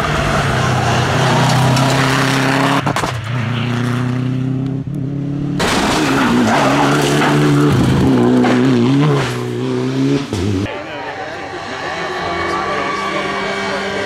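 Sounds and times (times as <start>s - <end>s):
rally car engine at high revs: 0.0s - 14.0s
rally car engine revving: 0.0s - 14.0s.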